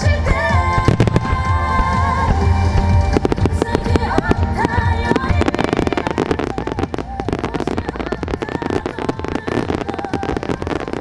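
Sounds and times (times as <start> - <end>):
fireworks bursts and pops: 0.0 - 11.0.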